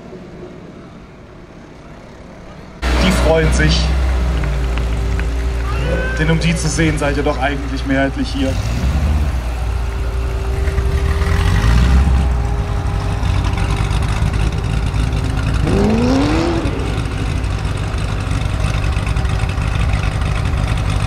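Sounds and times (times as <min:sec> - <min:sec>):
short rising whine: 0:00.0 - 0:20.1
engine deep rumble: 0:00.0 - 0:21.0.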